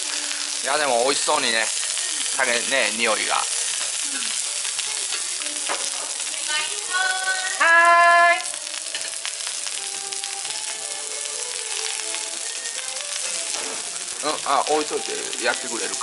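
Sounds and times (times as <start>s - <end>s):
vegetables sizzling on grill pan: 0.0s - 16.0s.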